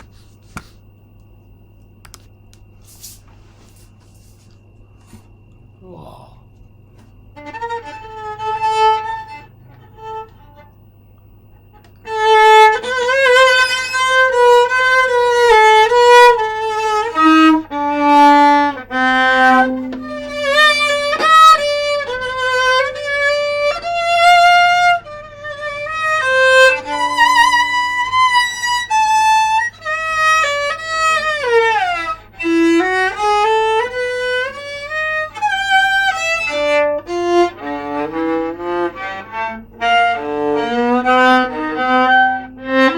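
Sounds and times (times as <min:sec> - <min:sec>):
solo viola melody: 0:07.3 - 0:10.8, 0:11.8 - 0:42.9.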